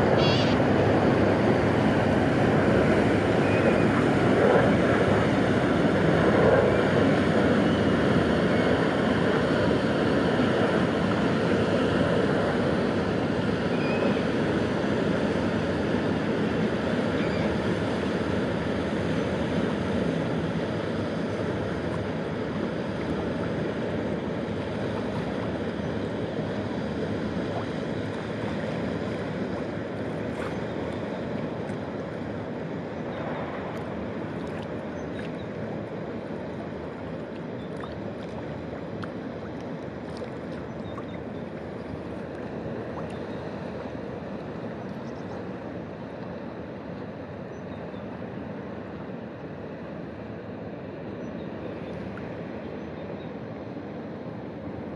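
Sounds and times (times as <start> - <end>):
rushing water from bow wave: 0.0 - 47.3
barge engine low rumble: 0.0 - 54.9.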